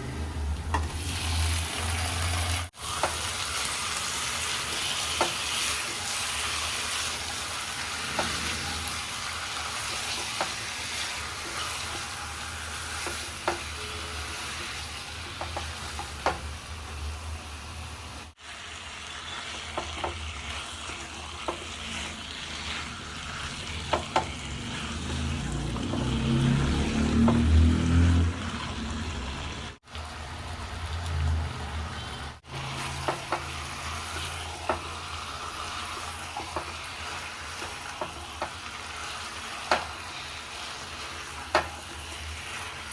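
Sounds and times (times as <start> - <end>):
chicken sizzling in a pan: 0.7 - 42.9.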